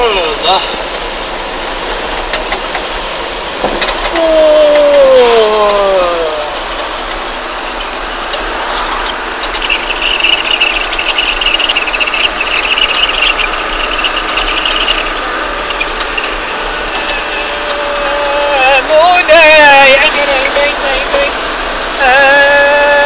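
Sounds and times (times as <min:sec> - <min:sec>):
vehicle engine rumbling: 0:00.0 - 0:23.0
shrill high sound: 0:04.0 - 0:23.0.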